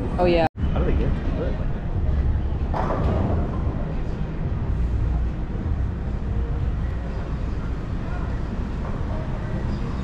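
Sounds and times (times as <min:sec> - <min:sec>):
low room noise rumble: 0:00.0 - 0:10.0.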